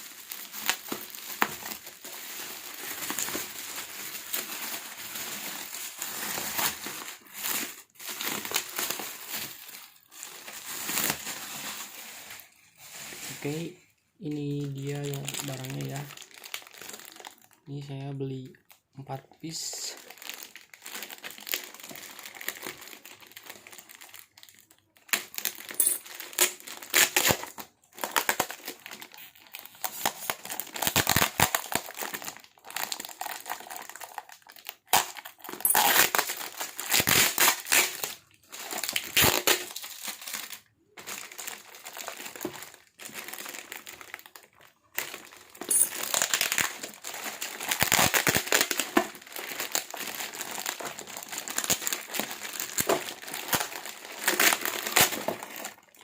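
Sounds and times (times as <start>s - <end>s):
packaging crumpling and crinkling: 0.0s - 56.0s.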